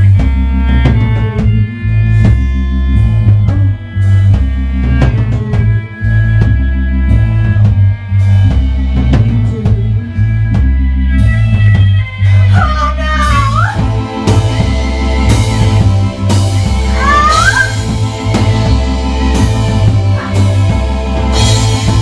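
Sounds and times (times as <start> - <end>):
drum kit beat: 0.0 - 22.0
heavy bass line: 0.0 - 22.0
rock band playing: 0.0 - 22.0
sliding pitch line: 0.0 - 22.0.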